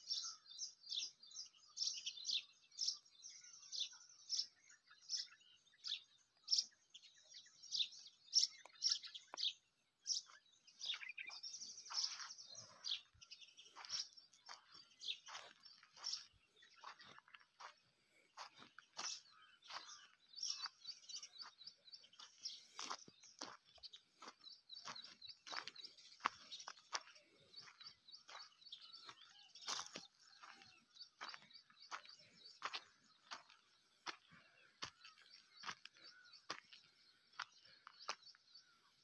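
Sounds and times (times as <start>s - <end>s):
faint birds chirping: 0.0s - 39.0s
footsteps on dry soil: 0.0s - 39.0s.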